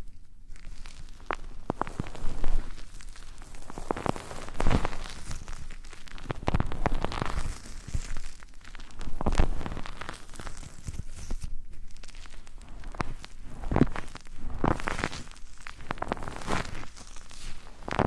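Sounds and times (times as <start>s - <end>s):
rubbing on microphone: 0.0s - 18.0s.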